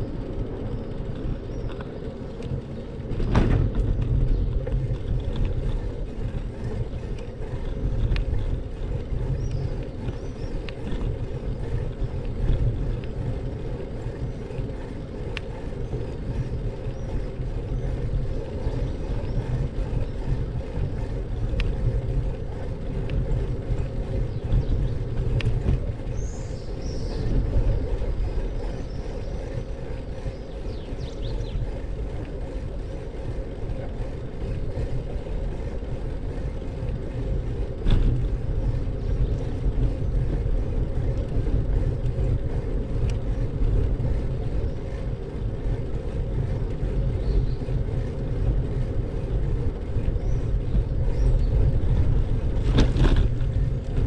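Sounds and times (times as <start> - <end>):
vehicle road and wind noise: 0.0 - 54.0.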